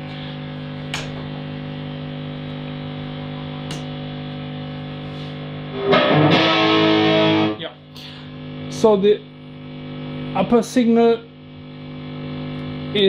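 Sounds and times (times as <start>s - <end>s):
guitar amplifier mains hum: 0.0s - 13.0s.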